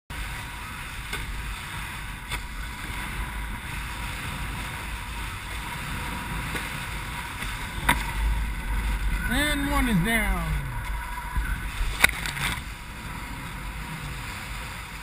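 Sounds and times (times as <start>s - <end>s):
water rushing along hull: 0.1s - 15.0s
wind buffeting microphone: 0.1s - 15.0s.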